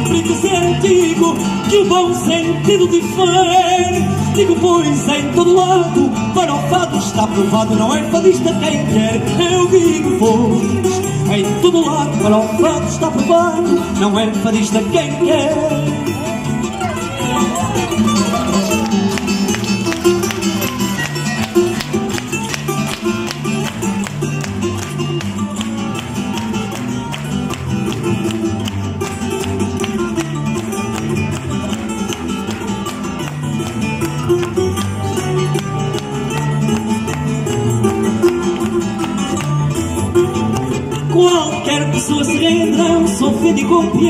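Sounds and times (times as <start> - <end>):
plucked guitars playing: 0.0 - 44.0.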